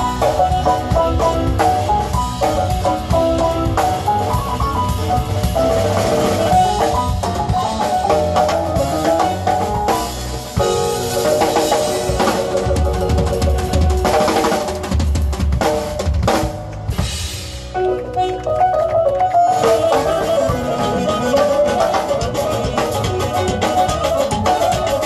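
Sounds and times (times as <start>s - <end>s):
synthesizer keyboard melody: 0.0s - 14.5s, 17.7s - 25.0s
drum kit: 0.0s - 25.0s.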